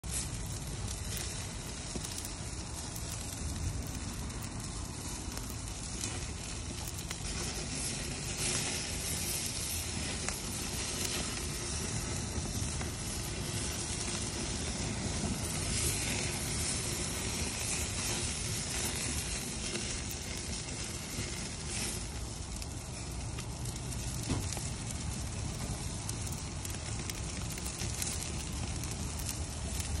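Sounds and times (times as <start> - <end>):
charcoal crackling and sizzling: 0.0 - 30.0.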